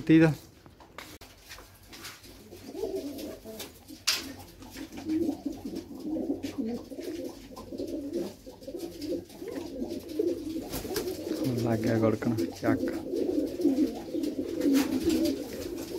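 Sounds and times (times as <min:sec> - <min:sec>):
pigeons cooing: 0:02.2 - 0:15.9.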